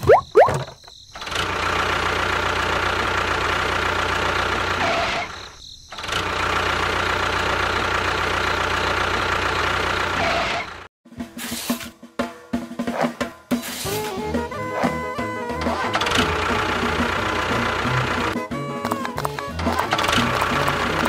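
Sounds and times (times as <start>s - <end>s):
engine running: 0.4s - 10.9s, 14.3s - 21.0s.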